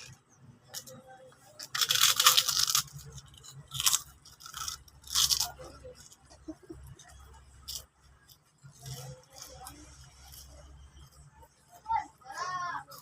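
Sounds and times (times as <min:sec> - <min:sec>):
crunchy eating: 0:00.0 - 0:11.6.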